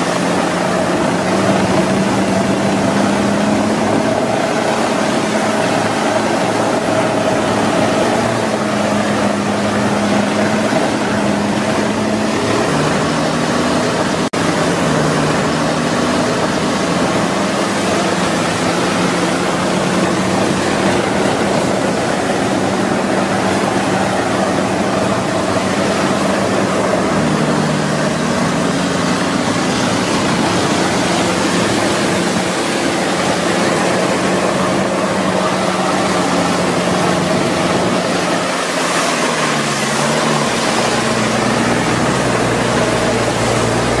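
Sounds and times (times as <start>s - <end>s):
diesel engine running under load: 0.0s - 44.0s
tyres churning through slush: 0.0s - 44.0s.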